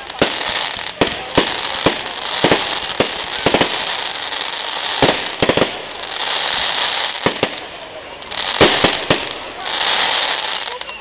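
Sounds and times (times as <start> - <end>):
fireworks bangs: 0.0 - 11.0
fireworks hiss: 0.0 - 11.0.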